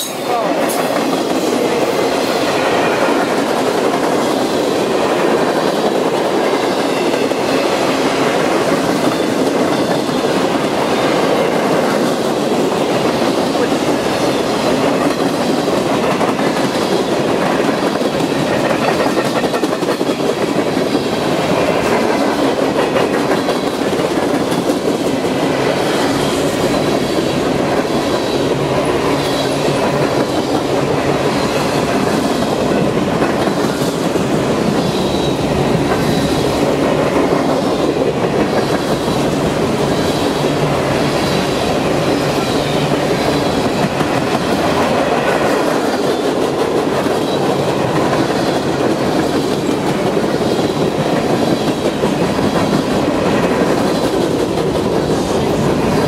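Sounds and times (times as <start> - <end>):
freight train wheels clacking: 0.0 - 56.0.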